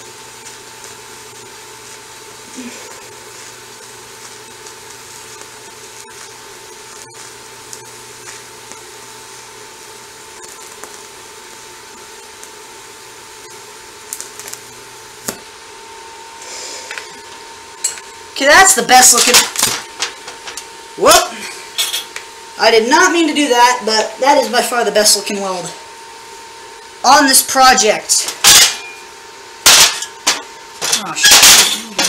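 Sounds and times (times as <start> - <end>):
welding arc hissing: 0.0 - 32.0.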